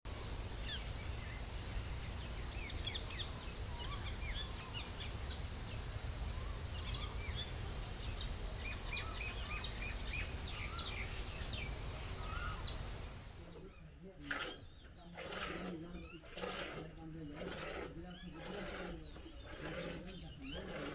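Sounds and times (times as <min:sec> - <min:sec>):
small birds chirping: 0:00.1 - 0:16.3, 0:17.1 - 0:20.9.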